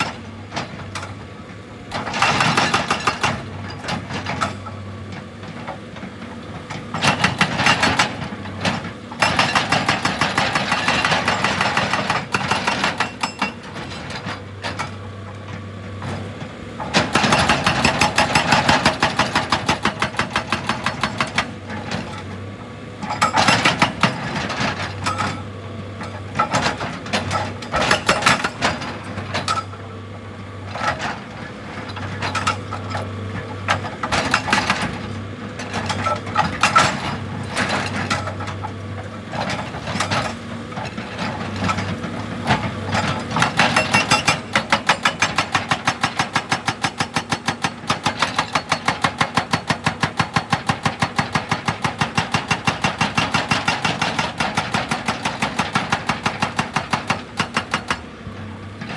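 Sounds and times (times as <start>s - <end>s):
hydraulic hammer pounding rock: 1.9s - 4.8s, 6.8s - 15.0s, 16.0s - 22.4s, 23.0s - 29.8s, 33.6s - 58.1s.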